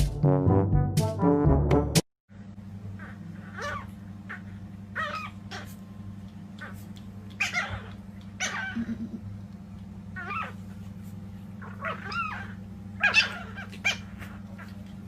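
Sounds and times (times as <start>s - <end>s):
steady low hum: 2.3s - 15.0s.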